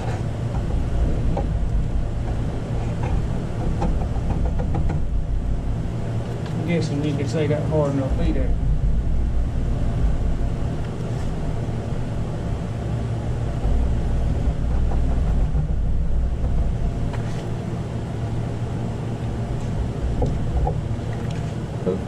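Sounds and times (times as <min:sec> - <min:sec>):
low rumbling motor hum: 0:00.0 - 0:22.0.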